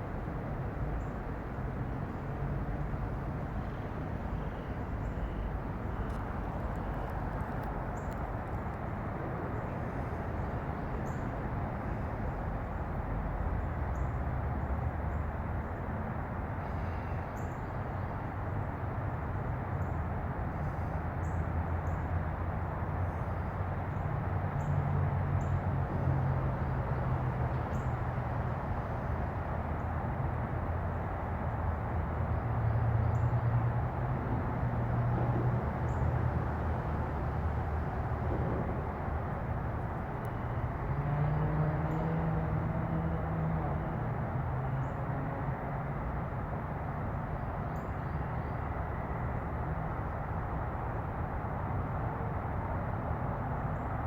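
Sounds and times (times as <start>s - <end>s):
outdoor background rumble: 0.0s - 54.0s.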